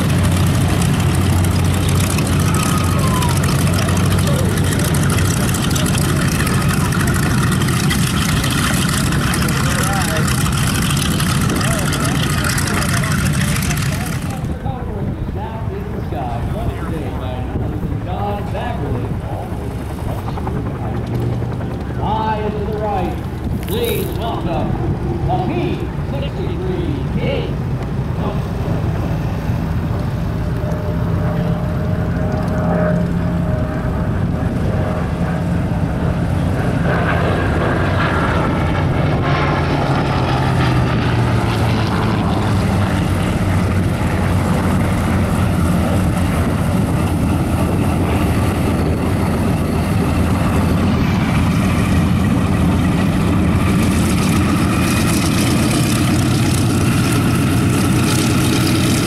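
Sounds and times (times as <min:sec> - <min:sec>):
aircraft engines taxiing past: 0:00.0 - 0:59.0
radial aircraft engine: 0:00.0 - 0:59.0.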